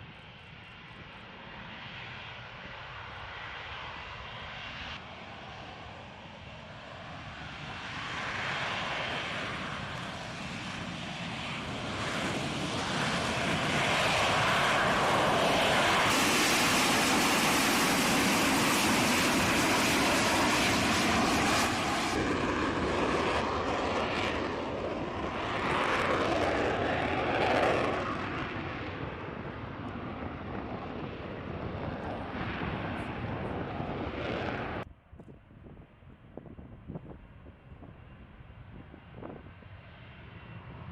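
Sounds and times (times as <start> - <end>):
jet engine flying past: 0.0 - 34.9, 36.6 - 40.9.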